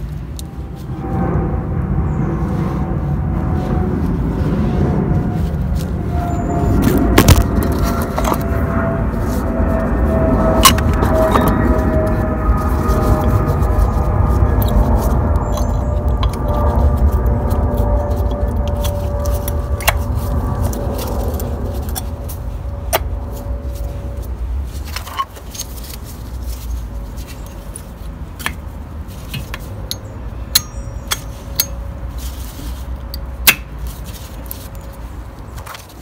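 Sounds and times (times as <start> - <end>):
low rumble: 0.0 - 35.5.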